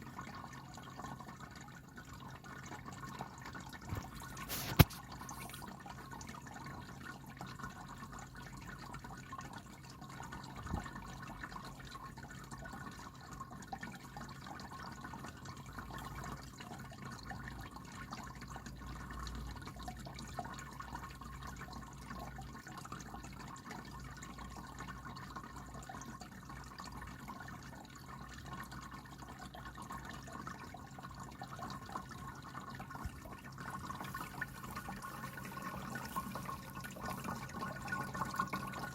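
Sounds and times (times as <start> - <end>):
low pump hum: 0.0 - 38.9
water trickling and dripping: 0.0 - 38.9.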